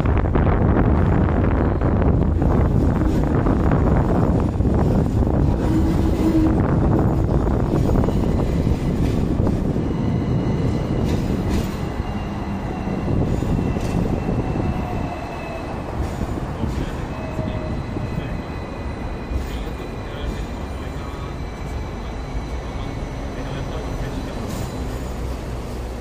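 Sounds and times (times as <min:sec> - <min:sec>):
tram rumbling on track: 0:00.0 - 0:26.0.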